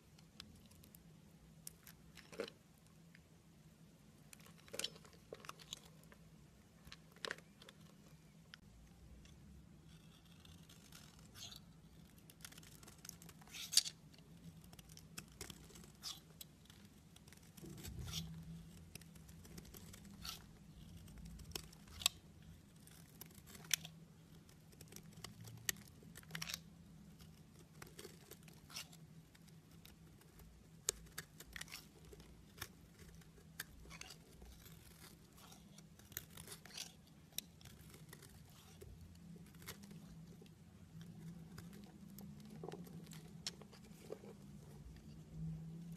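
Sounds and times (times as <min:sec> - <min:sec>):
knife scraping soap: 0:09.0 - 0:45.9.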